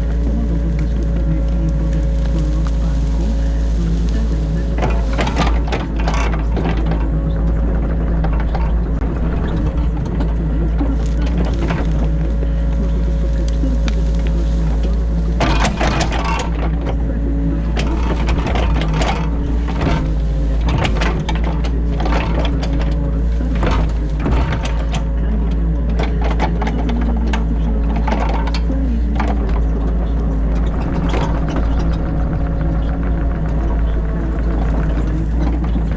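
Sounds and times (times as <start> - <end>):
diesel engine under load: 0.0 - 35.9
excavator bucket knocking and scraping: 0.0 - 35.9.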